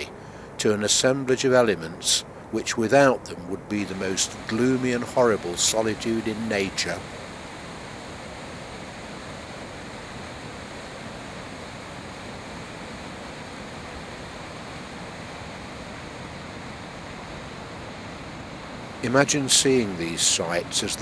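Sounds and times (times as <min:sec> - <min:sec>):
waterfall rushing: 0:03.7 - 0:21.0.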